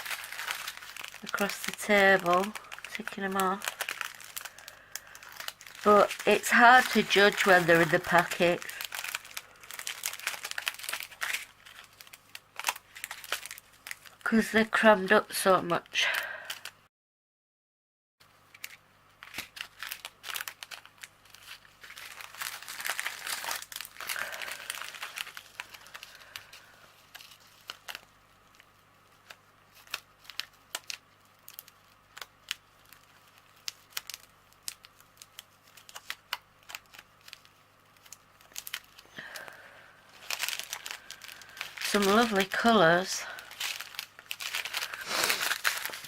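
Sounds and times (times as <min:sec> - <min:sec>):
plastic packets crinkling: 0:00.0 - 0:16.8, 0:18.4 - 0:46.0.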